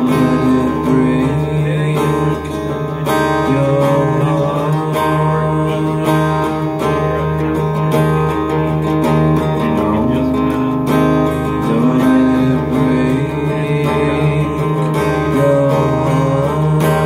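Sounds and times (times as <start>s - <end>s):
fingerpicked acoustic guitar: 0.0s - 17.0s.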